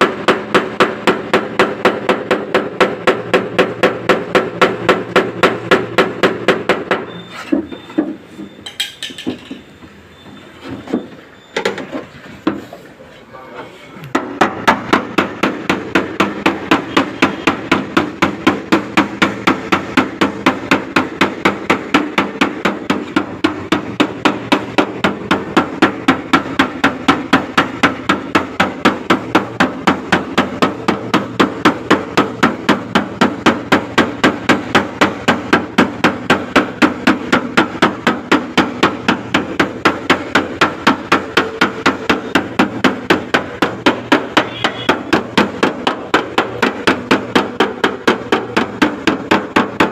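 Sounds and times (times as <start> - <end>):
hammer beating sheet metal: 0.0 - 7.7, 14.1 - 49.9.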